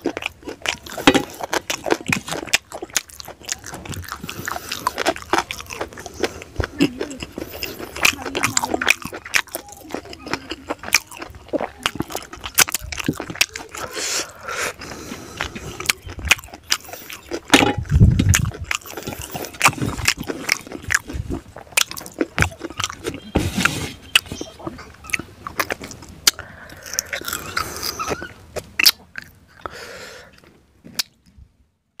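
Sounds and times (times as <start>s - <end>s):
wet chewing and lip smacking: 0.0s - 31.4s.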